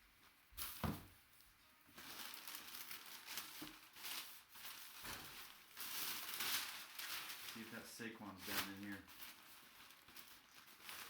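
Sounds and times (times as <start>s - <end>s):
packing material crinkling: 1.9s - 11.0s.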